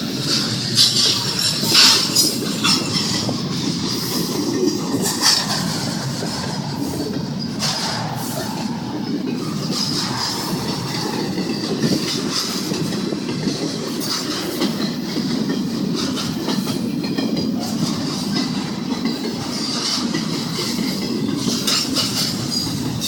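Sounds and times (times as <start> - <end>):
freight train rumbling past: 0.0 - 23.0
wheels clicking over rail joints: 0.0 - 23.0.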